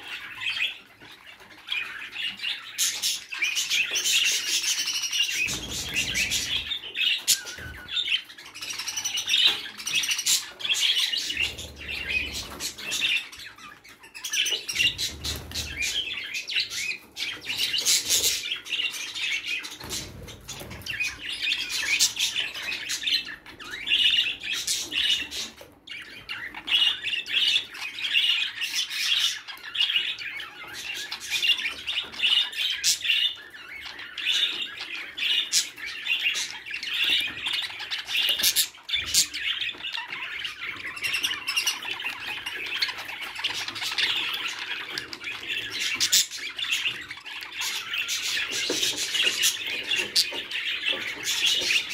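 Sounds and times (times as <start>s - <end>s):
budgerigars chattering: 0.0s - 51.9s.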